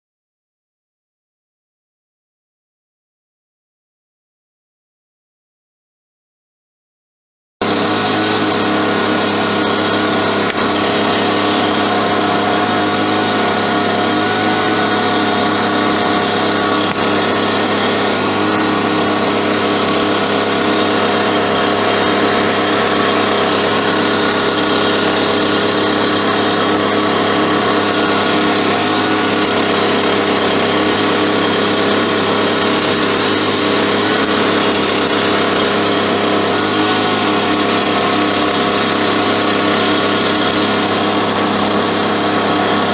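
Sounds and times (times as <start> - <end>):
small motor whining: 7.6 - 42.9.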